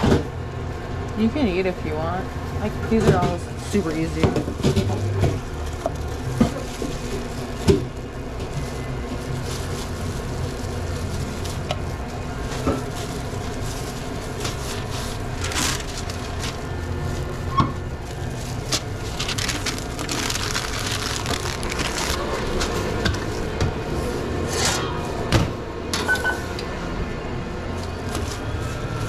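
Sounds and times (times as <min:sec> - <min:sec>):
refrigeration hum: 0:00.0 - 0:29.0
sandwich paper rustling: 0:03.2 - 0:25.3, 0:27.7 - 0:29.0.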